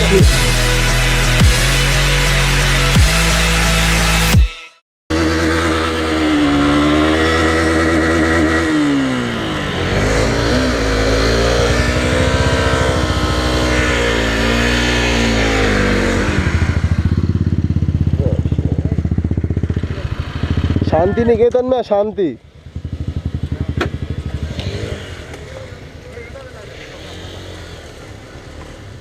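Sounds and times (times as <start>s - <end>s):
motorcycle engine on the road: 0.0s - 4.4s, 5.1s - 29.0s.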